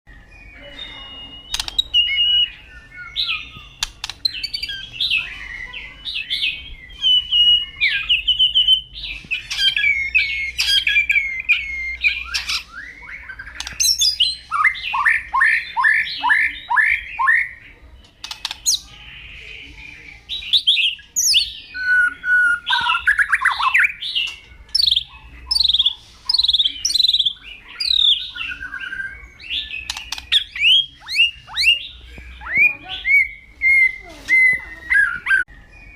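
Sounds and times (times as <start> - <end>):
bird singing whistles: 0.1 - 17.6, 18.2 - 35.9.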